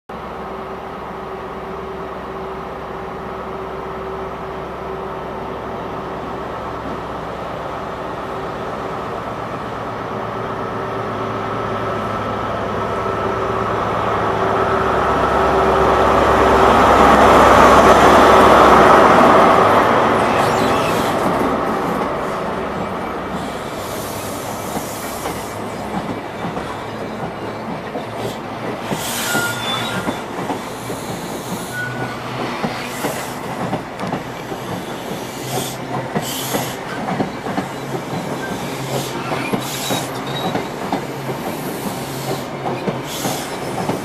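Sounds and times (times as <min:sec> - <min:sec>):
diesel locomotive engine: 0:00.1 - 0:44.0
train coaches rolling by: 0:00.1 - 0:44.0.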